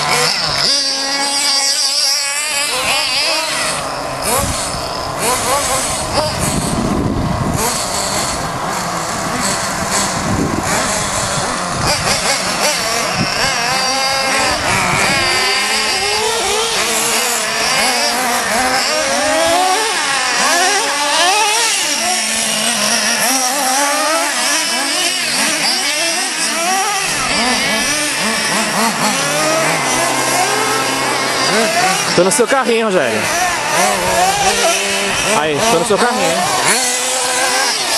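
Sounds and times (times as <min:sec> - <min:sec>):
radio-controlled car motors revving: 0:00.0 - 0:37.9.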